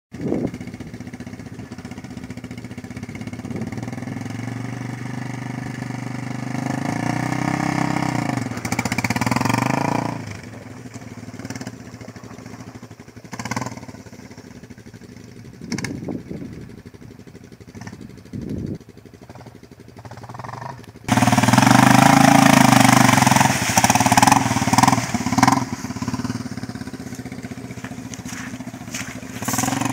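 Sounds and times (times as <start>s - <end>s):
quad bike engine revving: 0.2s - 29.9s.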